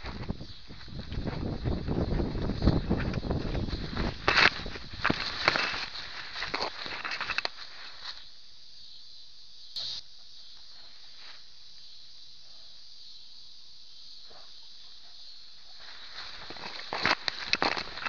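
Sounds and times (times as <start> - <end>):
grass rustling against camera: 0.0 - 8.8, 9.8 - 18.0
insects chirring: 0.0 - 18.0.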